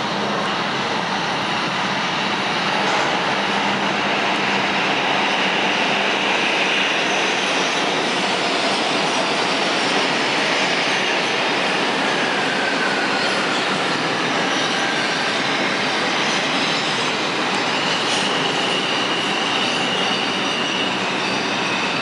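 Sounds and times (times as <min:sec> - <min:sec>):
subway train wheels rumbling on rail: 0:00.0 - 0:22.0.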